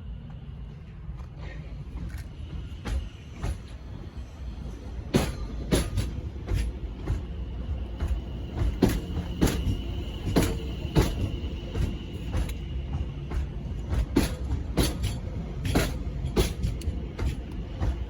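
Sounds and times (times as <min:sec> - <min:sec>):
low train rumble: 0:00.0 - 0:18.0
train wheels clacking over rail joints: 0:01.2 - 0:03.9, 0:04.6 - 0:18.0.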